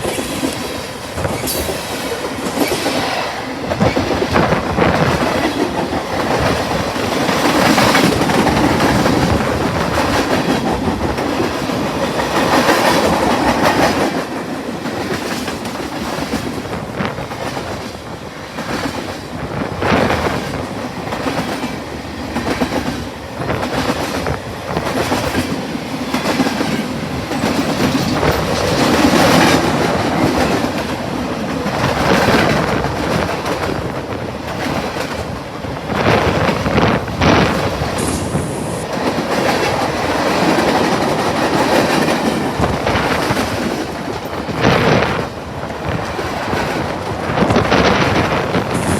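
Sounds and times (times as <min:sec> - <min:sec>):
train wheels clacking over rail joints: 0:03.7 - 0:38.0, 0:38.9 - 0:48.9.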